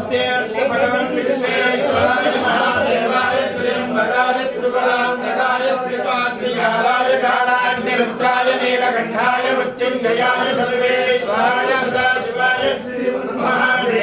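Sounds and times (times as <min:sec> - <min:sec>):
men chanting mantras: 0:00.0 - 0:14.0.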